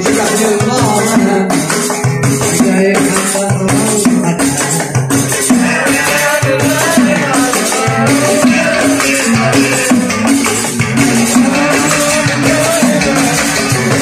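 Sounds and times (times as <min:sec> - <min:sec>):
bending melody line: 0:00.0 - 0:14.0
hand drums rattling rhythm: 0:00.0 - 0:14.0.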